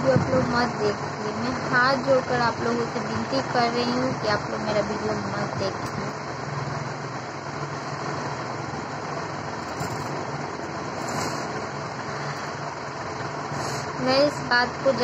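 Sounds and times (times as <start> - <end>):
air cooler fan whirring: 0.0 - 15.0
motor hum: 0.0 - 15.0.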